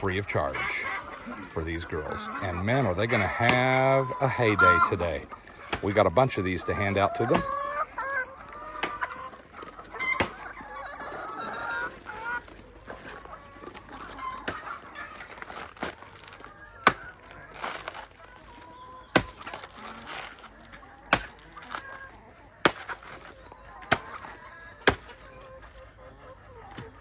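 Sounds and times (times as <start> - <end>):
hens clucking and squawking: 0.0 - 27.0.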